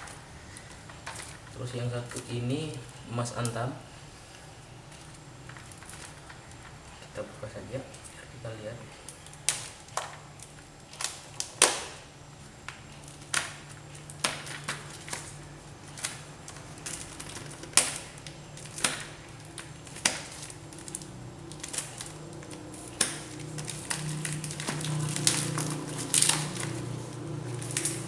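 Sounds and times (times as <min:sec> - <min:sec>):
packaging clicking and snapping: 0:00.0 - 0:03.6, 0:04.3 - 0:07.1, 0:09.0 - 0:28.0
low steady hum: 0:00.0 - 0:28.0.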